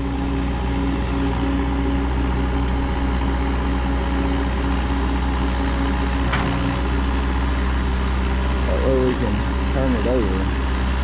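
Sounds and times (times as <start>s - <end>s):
heavy machine engine running: 0.0s - 11.0s.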